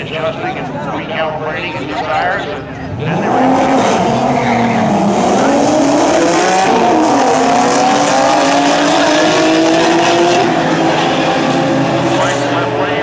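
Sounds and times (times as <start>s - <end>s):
drag cars accelerating hard: 0.0s - 13.0s.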